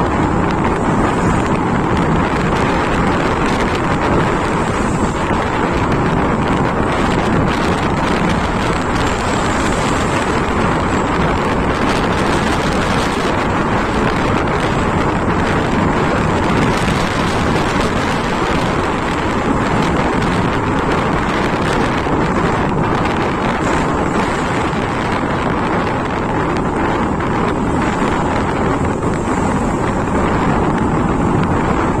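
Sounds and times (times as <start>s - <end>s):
motorcycle engine: 0.0s - 32.0s
road noise: 0.0s - 32.0s
wind rushing over microphone: 0.0s - 32.0s.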